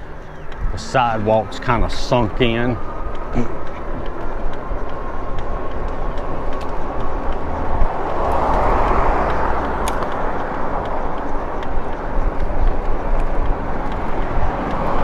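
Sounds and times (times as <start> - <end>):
low tyre rumble: 0.0 - 15.0
wind rushing over microphone: 0.0 - 15.0.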